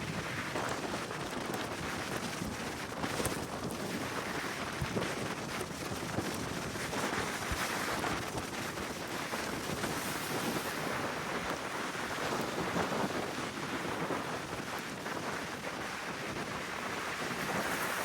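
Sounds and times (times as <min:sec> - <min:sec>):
gale wind buffeting microphone: 0:00.0 - 0:18.0.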